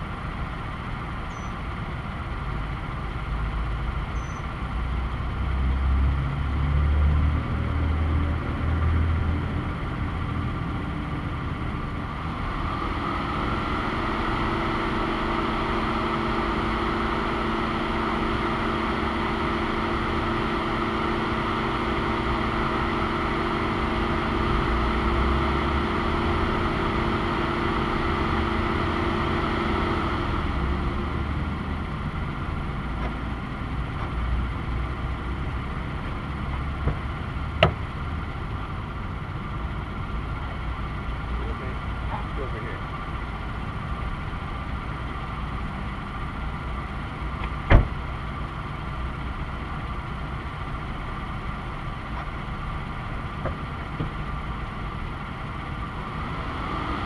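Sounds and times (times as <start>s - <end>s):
steady engine drone: 0.0s - 57.0s.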